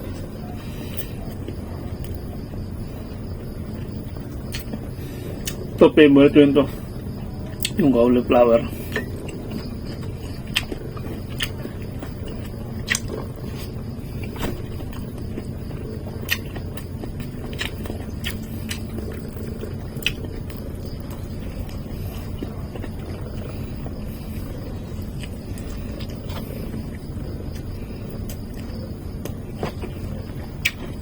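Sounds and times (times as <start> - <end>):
person chewing with crunches: 0.0 - 5.7, 6.8 - 31.0
steady low rumble: 0.0 - 31.0.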